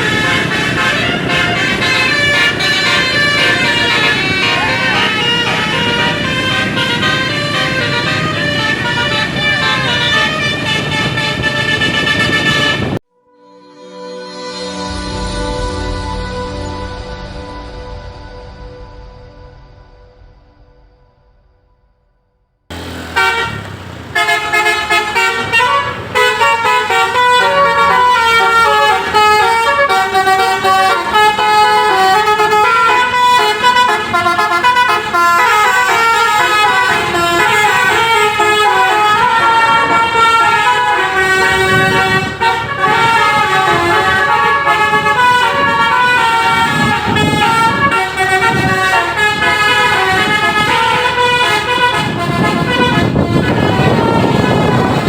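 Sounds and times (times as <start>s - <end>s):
multi-tone bus horn melody: 0.0s - 18.7s, 22.7s - 55.0s.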